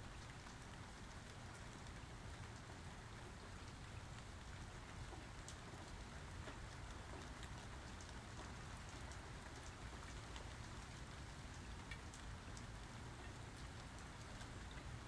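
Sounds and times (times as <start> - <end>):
raindrops ticking on surfaces: 0.0 - 15.0.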